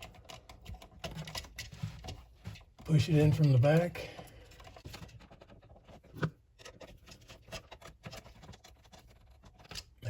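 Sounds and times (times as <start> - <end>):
wires clicking and scratching: 0.0 - 10.0.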